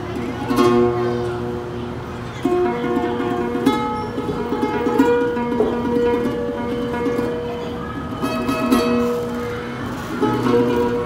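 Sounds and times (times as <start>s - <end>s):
fingerstyle acoustic guitar: 0.0s - 11.0s.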